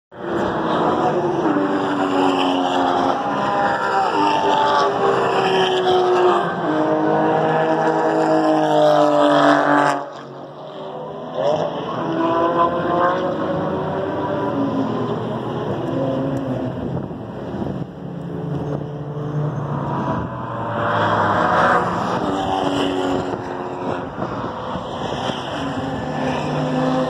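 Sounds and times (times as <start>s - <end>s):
race car engines passing: 0.2s - 27.0s.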